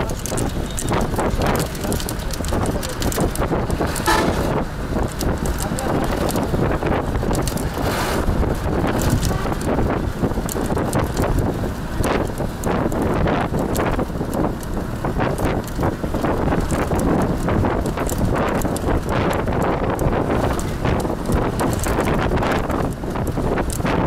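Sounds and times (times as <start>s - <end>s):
knocks and rattles: 0.0s - 24.0s
vehicle engine and road noise: 0.0s - 24.0s
wind rushing over microphone: 0.0s - 24.0s.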